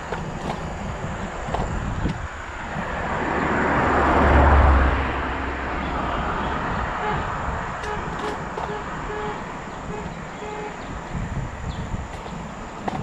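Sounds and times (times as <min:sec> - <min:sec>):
motor vehicle passing by: 0:01.7 - 0:13.0.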